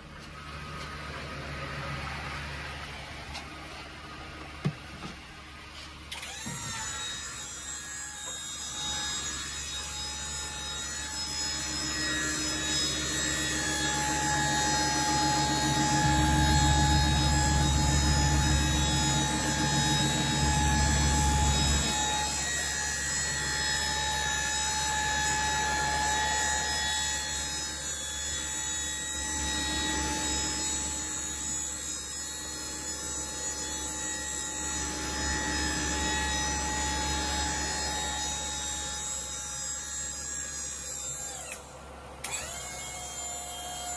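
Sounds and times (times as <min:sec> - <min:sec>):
hydraulic pump motor hum: 0:06.1 - 0:43.9.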